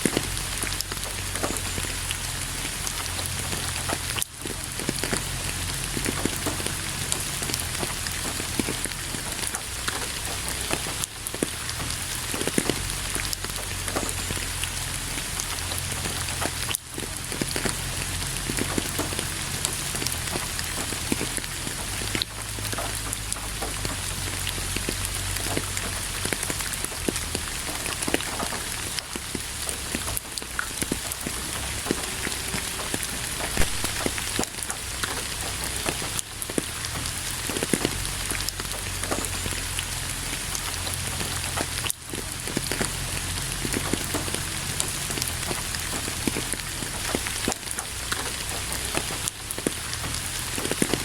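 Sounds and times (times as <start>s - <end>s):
steady rain pattering: 0.0s - 51.0s.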